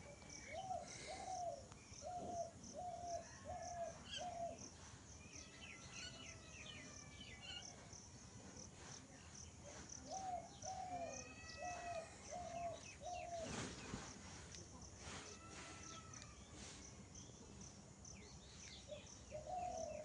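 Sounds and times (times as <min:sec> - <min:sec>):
birds chirping: 0:00.0 - 0:07.8, 0:09.2 - 0:14.7, 0:15.4 - 0:20.0
insects trilling: 0:00.2 - 0:20.0.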